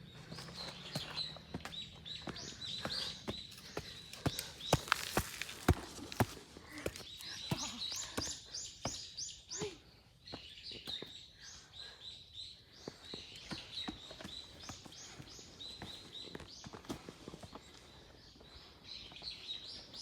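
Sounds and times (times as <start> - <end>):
footsteps and knocks on trail: 0.0 - 9.6, 12.8 - 20.0.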